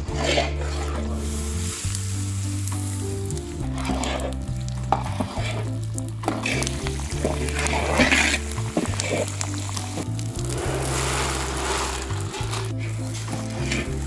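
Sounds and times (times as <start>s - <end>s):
metal ladle stirring: 0.0s - 14.0s
flour sizzling in ghee: 0.3s - 14.0s.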